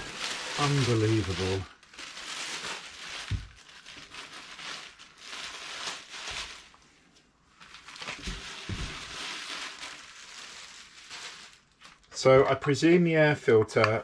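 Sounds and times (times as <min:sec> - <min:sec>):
plastic bag rustling: 0:00.0 - 0:12.2.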